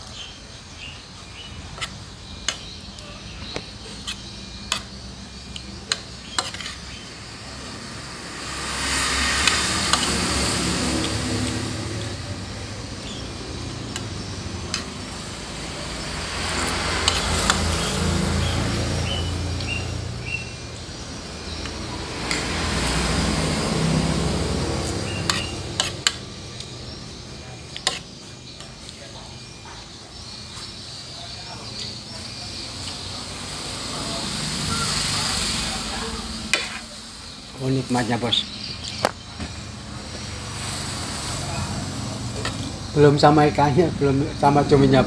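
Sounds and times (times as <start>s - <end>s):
passing traffic: 0.0s - 45.0s.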